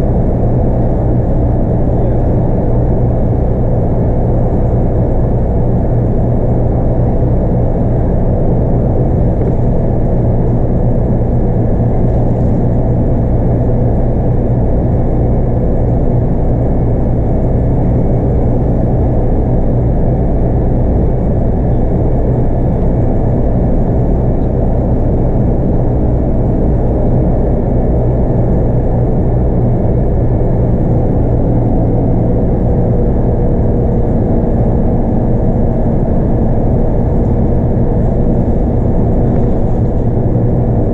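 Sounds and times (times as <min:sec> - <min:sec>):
bus engine drone: 0:00.0 - 0:40.9
road noise: 0:00.0 - 0:40.9.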